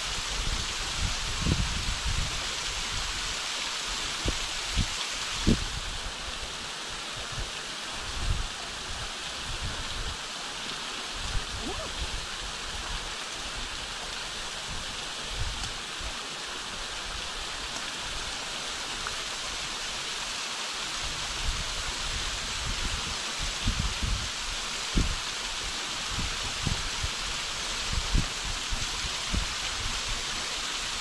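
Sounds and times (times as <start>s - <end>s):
small waterfall splashing: 0.0s - 31.0s.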